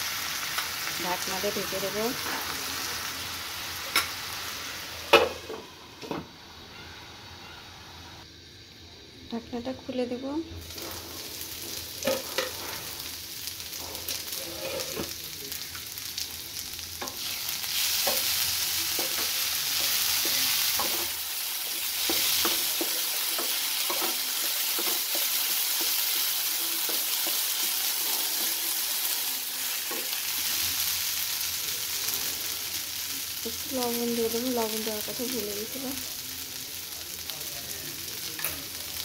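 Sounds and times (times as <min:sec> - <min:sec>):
food sizzling in a frying pan: 0:00.0 - 0:39.0.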